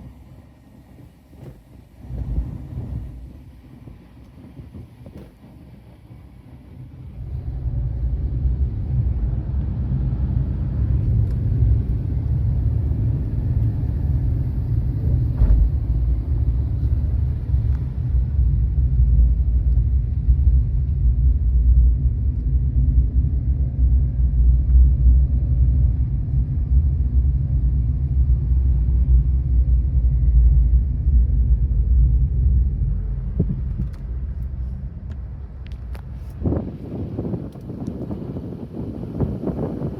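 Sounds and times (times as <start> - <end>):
vehicle rumbling in motion: 0.0 - 39.9.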